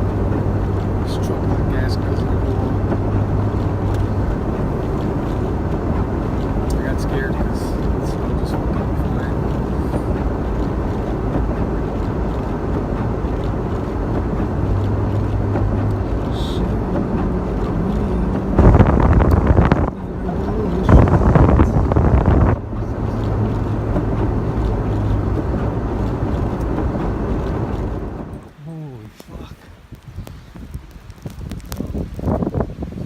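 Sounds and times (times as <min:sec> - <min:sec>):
bursts of noise: 0:00.0 - 0:29.9
car engine and road noise: 0:00.0 - 0:33.0.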